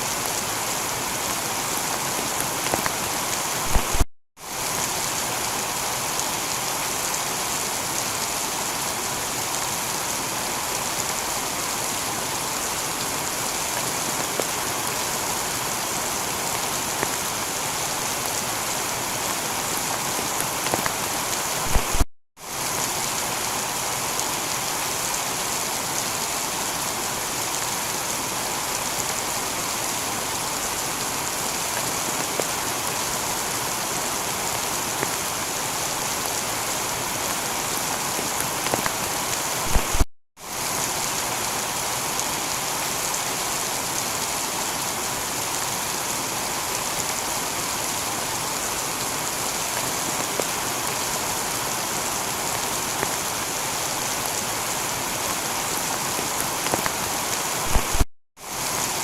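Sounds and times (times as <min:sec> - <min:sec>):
heavy rain on a tiled roof: 0:00.0 - 0:59.0.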